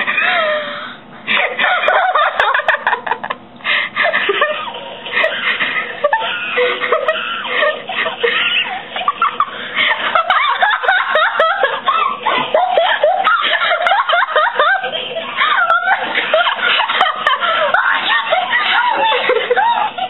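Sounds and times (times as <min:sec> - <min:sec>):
girls laughing: 0:00.0 - 0:20.0.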